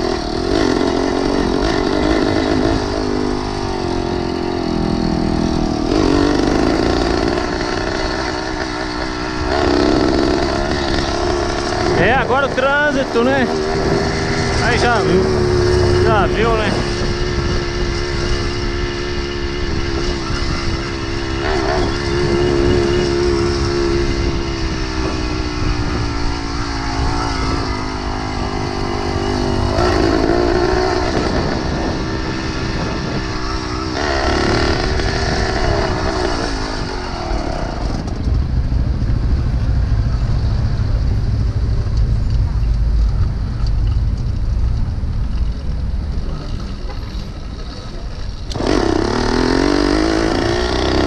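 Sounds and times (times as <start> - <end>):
wind rumble on microphone: 0.0 - 51.0.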